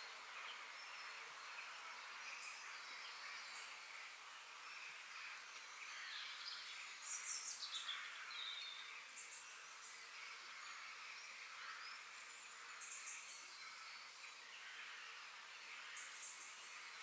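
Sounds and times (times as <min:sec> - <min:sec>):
high insect hiss: 0:00.0 - 0:17.0.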